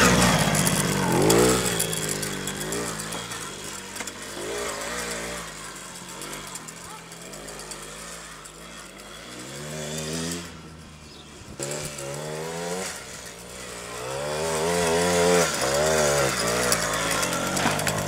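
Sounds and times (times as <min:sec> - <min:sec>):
quad bike engine revving: 0:00.0 - 0:18.0.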